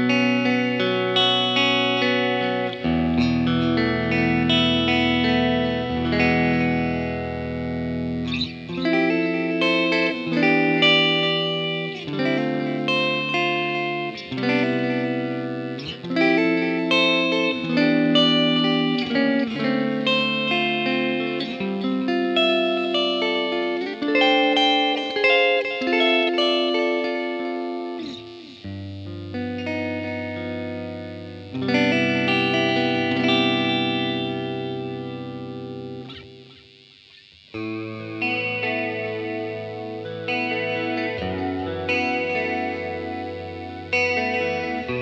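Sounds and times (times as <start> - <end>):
electric guitar ringing notes: 0.0 - 45.0.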